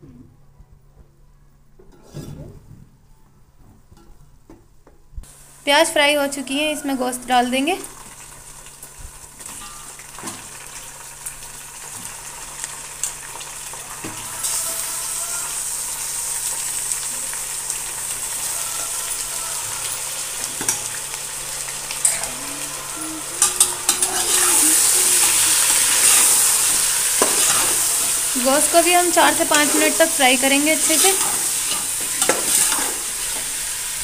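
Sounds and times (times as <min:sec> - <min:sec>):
meat sizzling in hot oil: 0:05.3 - 0:34.0.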